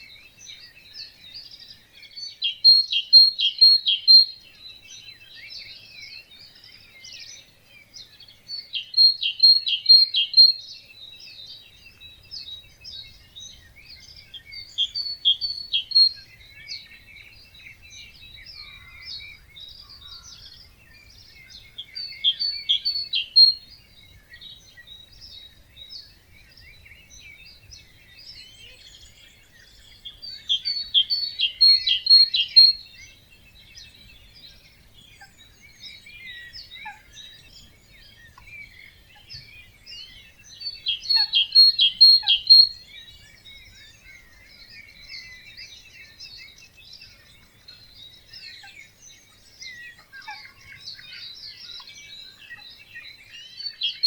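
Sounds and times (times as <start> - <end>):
bird singing rapid repeated notes: 0.0 - 54.0
songbirds chirping and trilling: 0.0 - 54.0.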